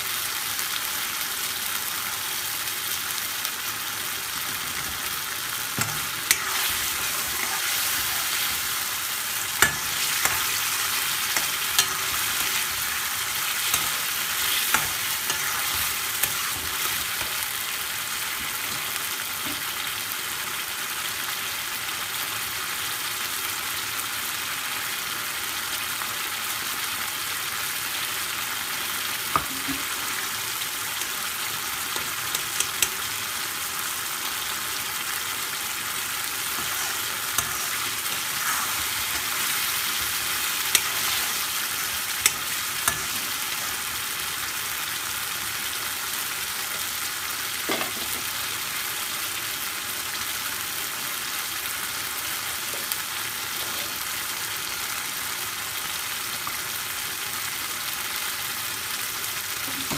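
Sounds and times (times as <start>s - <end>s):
curry sizzling in a pan: 0.0s - 59.9s.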